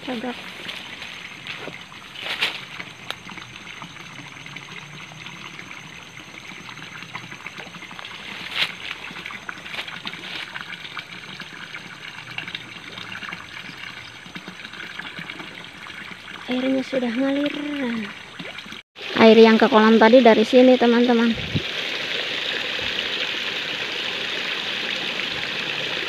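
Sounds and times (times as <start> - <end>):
water trickling into pond: 0.0 - 26.0.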